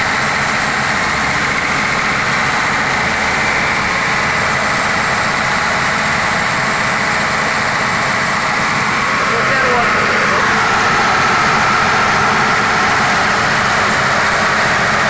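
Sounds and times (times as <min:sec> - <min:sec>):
diesel air compressor engine drone: 0:00.0 - 0:15.0.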